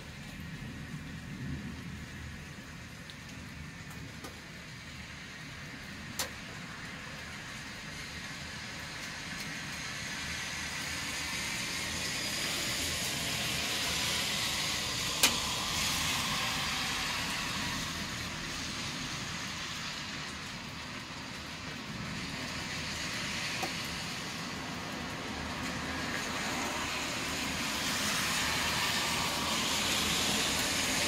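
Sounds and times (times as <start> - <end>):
tyres hissing on wet street: 0.0 - 31.0.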